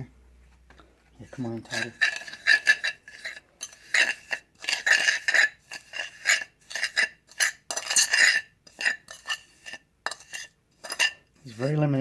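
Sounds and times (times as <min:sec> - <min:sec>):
utensil scraping paste in container: 0:01.2 - 0:12.0.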